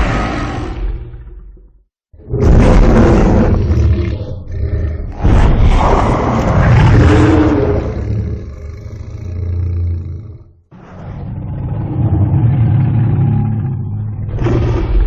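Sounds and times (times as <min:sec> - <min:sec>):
monster roar: 0:00.0 - 0:01.5, 0:02.2 - 0:15.0.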